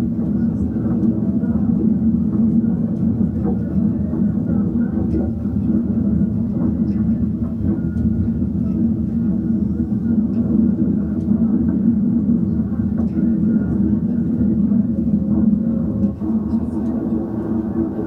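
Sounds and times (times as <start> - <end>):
low mechanical rumble with hum: 0.0 - 18.0.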